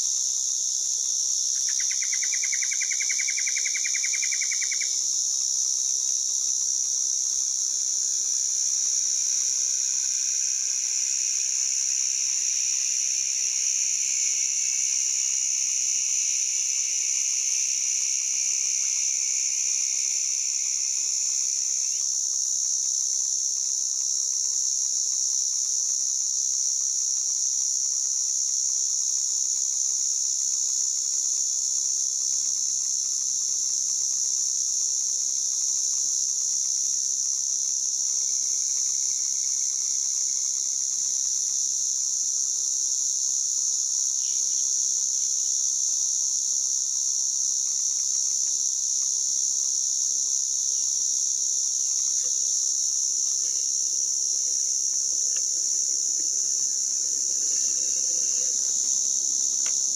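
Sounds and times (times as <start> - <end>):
cicada buzzing: 0.0 - 59.9.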